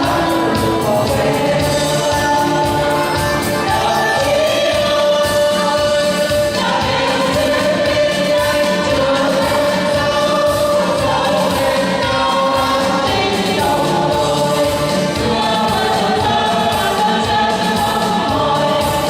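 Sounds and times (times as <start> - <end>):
choir singing march song: 0.0 - 19.0
rhythmic instrumental backing: 0.0 - 19.0.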